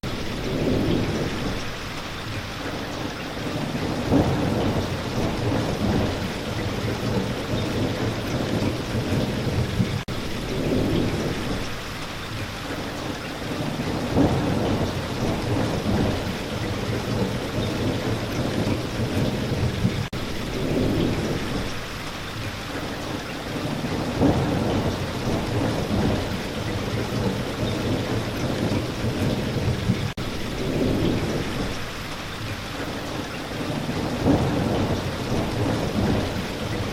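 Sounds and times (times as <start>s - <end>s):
thunder rumbling: 0.0s - 12.0s, 12.9s - 22.0s, 22.8s - 36.9s
heavy rain: 0.0s - 36.9s.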